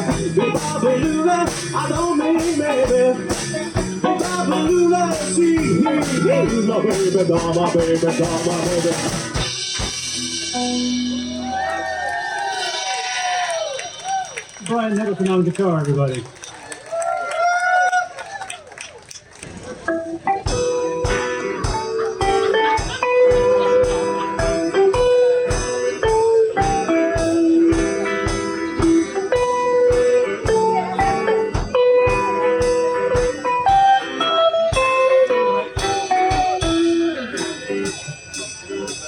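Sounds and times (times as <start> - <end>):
electric guitar lead: 0.0 - 13.1, 19.9 - 39.0
rock band playing: 0.0 - 16.2, 19.8 - 39.0.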